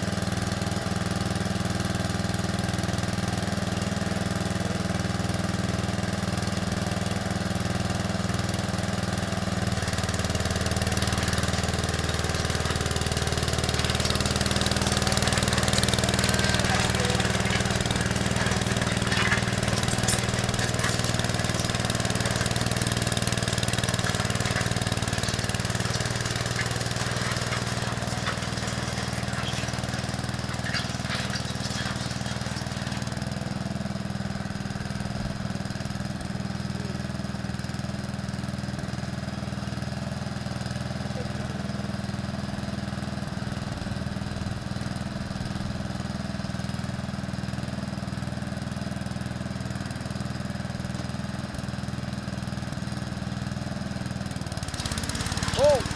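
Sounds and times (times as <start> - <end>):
small engine idling: 0.0 - 55.9.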